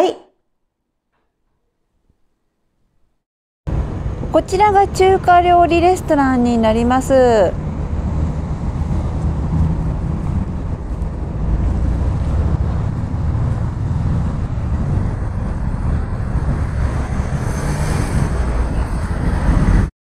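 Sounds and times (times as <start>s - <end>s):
low outdoor rumble: 3.7s - 19.9s
wind buffeting microphone: 3.7s - 19.9s.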